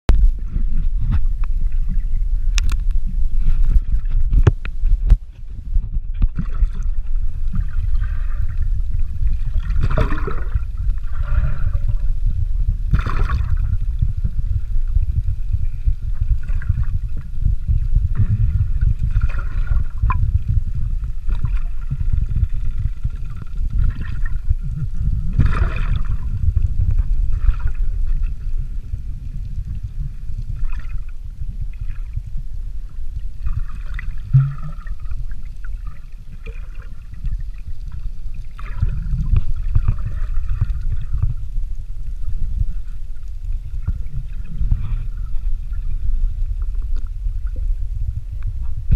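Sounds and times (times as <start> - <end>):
gurgling bubbles: 0.1 - 48.9
muffled underwater rumble: 0.1 - 48.9.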